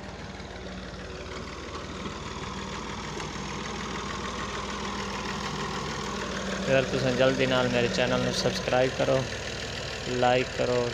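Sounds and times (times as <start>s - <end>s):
tractor diesel engine running: 0.0s - 10.9s.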